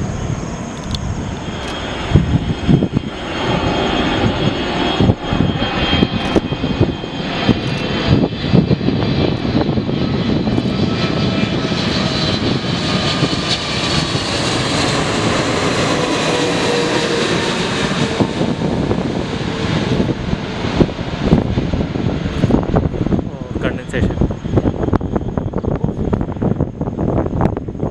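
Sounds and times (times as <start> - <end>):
faint jet whine falling in pitch: 0.0 - 27.9
jet engines rushing past: 0.0 - 27.9.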